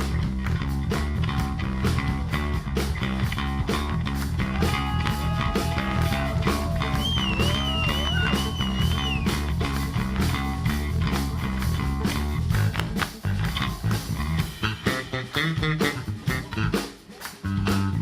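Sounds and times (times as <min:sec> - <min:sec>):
drum kit beat: 0:00.0 - 0:18.0
electric bass line: 0:00.0 - 0:18.0.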